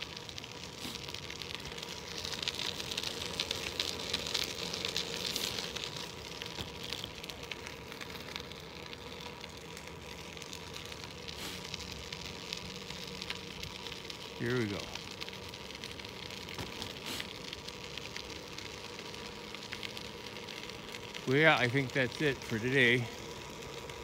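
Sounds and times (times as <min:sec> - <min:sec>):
bicycle tyres hissing on wet road: 0:00.0 - 0:24.0.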